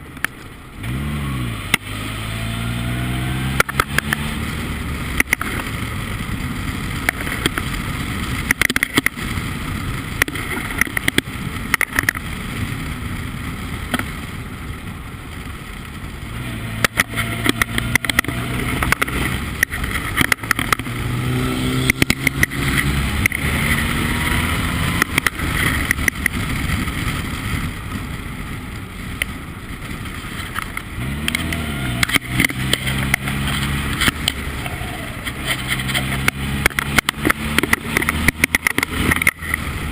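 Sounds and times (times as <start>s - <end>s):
race car engine: 0.0s - 39.9s
rushing noise: 0.0s - 39.9s.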